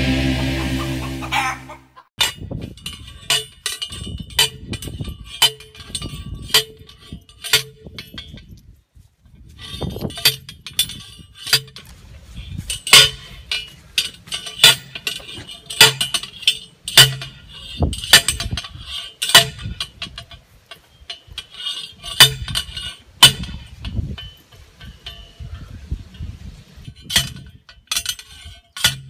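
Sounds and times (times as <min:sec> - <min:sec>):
post driver clanking on metal rod: 0:02.2 - 0:08.6, 0:09.7 - 0:11.9, 0:12.7 - 0:25.6, 0:27.0 - 0:29.0.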